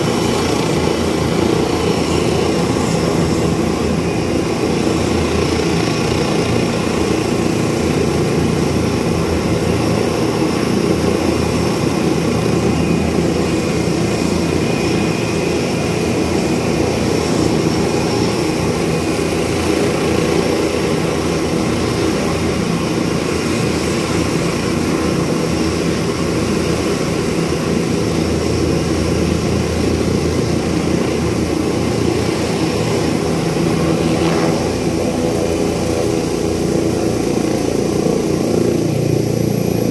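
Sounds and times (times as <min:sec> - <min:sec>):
helicopter high whine: 0:00.0 - 0:39.9
helicopter rotor drone: 0:00.0 - 0:39.9.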